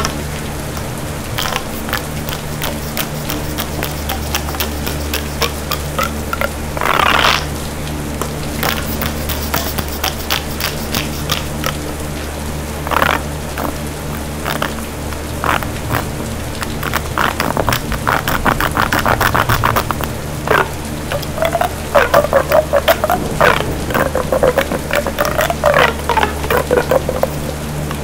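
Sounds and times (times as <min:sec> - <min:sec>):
creature croaking rattling calls: 0:00.0 - 0:07.6, 0:08.6 - 0:12.0, 0:12.8 - 0:28.0
low steady drone: 0:00.0 - 0:28.0
pulsed croaks: 0:00.0 - 0:28.0
fast clicking rattle: 0:00.8 - 0:07.5, 0:08.6 - 0:11.9, 0:12.8 - 0:28.0.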